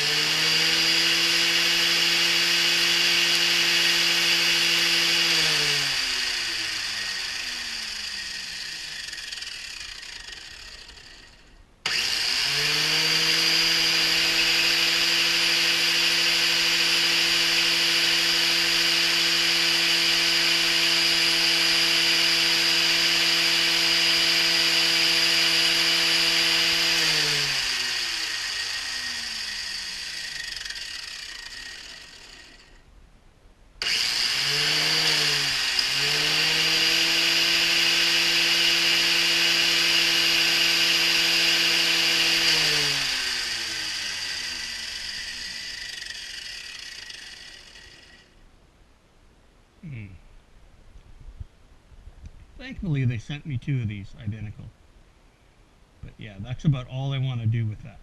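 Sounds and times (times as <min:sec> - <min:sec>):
angle grinder whining: 0:00.0 - 0:32.9, 0:33.8 - 0:48.4.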